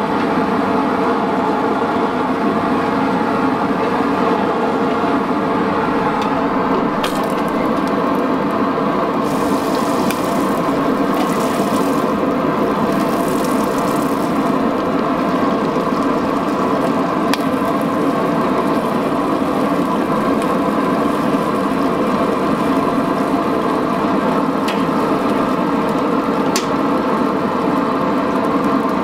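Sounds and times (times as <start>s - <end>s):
quench liquid boiling and bubbling: 3.7s - 29.0s.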